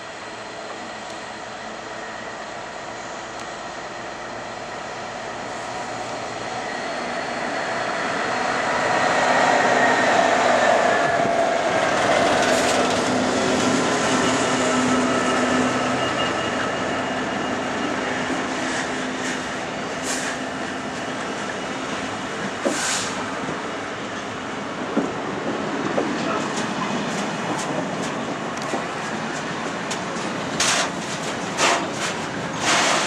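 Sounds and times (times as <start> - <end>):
diesel locomotive engine drone: 0.0 - 33.0.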